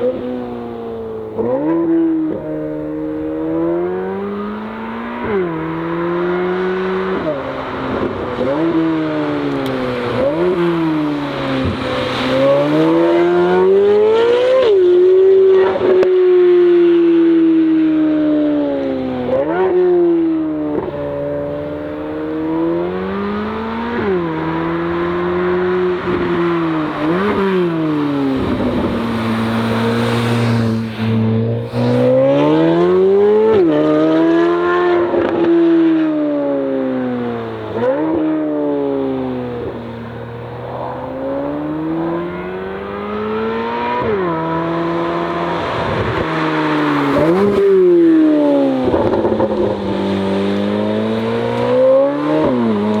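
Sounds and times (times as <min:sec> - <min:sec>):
sports car engine accelerating: 0:00.0 - 0:53.0.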